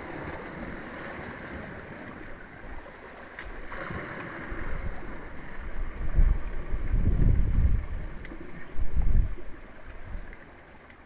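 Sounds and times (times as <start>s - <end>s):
wind rumbling on microphone: 0.0s - 10.5s
sea washing against rocks: 0.0s - 10.6s.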